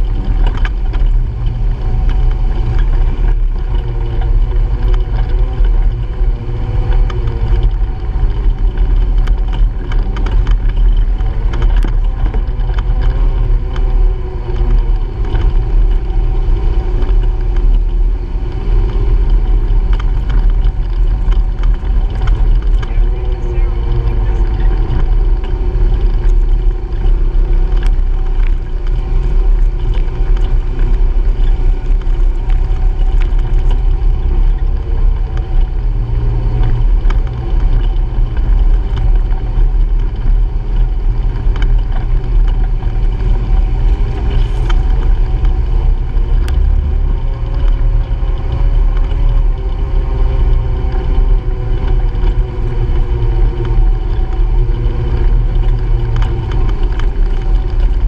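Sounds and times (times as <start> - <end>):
clicks and rattles: 0.0 - 58.0
heavy rumble: 0.0 - 58.0
vehicle engine running: 0.0 - 58.0.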